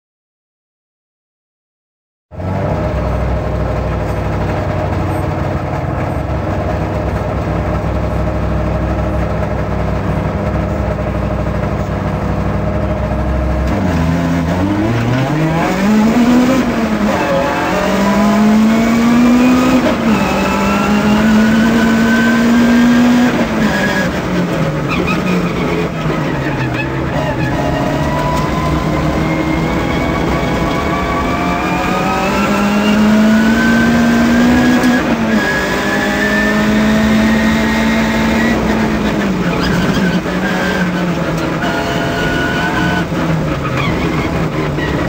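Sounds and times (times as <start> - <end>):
car engine accelerating: 2.3 - 45.0.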